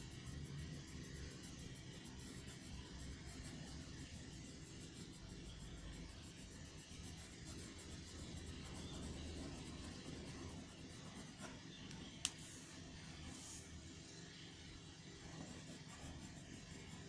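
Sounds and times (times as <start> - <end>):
pencil shading on paper: 0.0 - 13.8, 15.1 - 17.0
low steady hum: 0.0 - 17.0.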